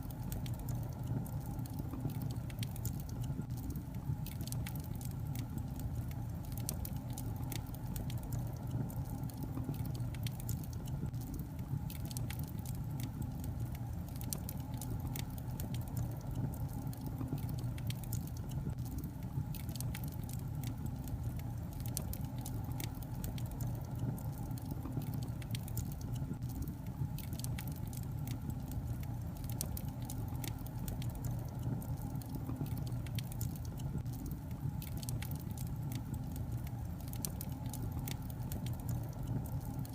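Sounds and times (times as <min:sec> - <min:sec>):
low rumble of burning logs: 0:00.0 - 0:39.9
wood fire crackling and popping: 0:00.0 - 0:39.9.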